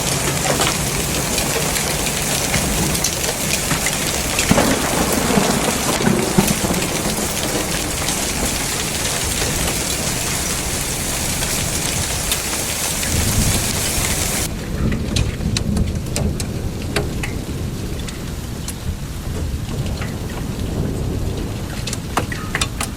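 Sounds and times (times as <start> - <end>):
hail and rain falling hard: 0.0 - 22.9
hailstones ticking: 0.0 - 22.9
heavy wind: 0.0 - 22.9.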